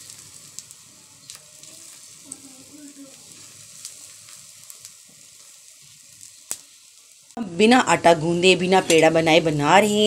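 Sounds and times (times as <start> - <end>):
batter sizzling on a hot pan: 0.0 - 10.0.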